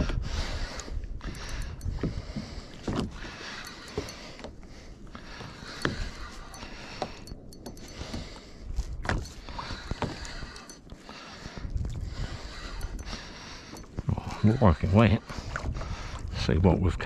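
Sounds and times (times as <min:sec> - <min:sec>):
water sloshing against hull: 0:00.0 - 0:17.0
wind on microphone: 0:00.0 - 0:17.0.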